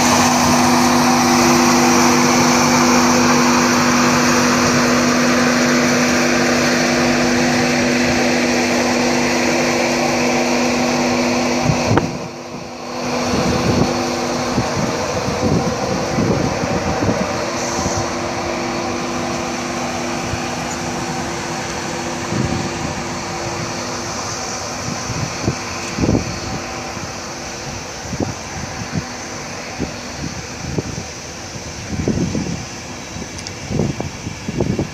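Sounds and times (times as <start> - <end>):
train hum and hiss: 0.0 - 34.9.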